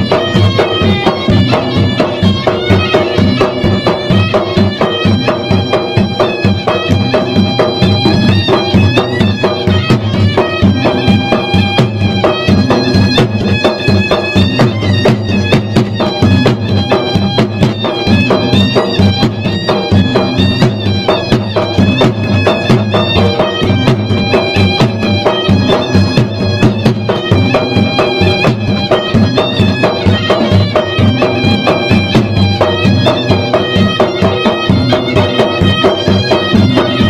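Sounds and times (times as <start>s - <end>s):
drums beaten in fast rhythm: 0.0s - 37.0s
shrill double-reed pipe melody: 0.0s - 37.0s.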